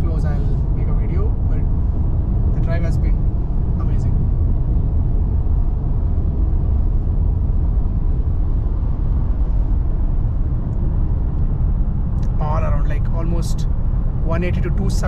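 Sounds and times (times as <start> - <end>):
car cruising road rumble: 0.0 - 15.0.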